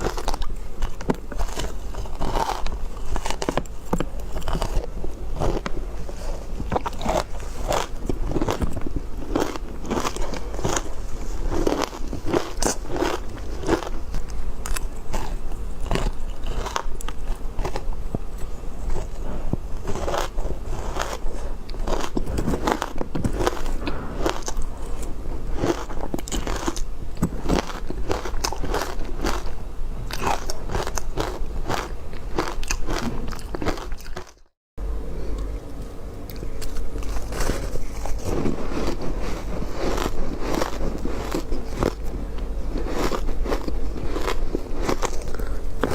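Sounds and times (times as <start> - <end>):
chewing ice crunching: 0.0 - 19.2, 19.8 - 34.5, 36.3 - 45.9
faint low hum: 0.0 - 45.9.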